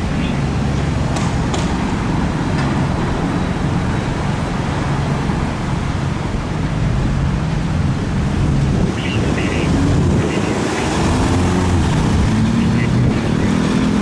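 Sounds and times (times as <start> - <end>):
fire engine running: 0.0 - 14.0
road and traffic noise: 0.0 - 14.0.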